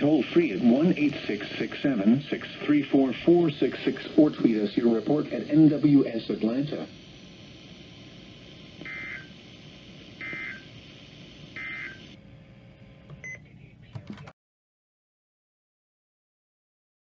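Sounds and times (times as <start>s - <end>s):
radio hiss: 0.0s - 14.2s.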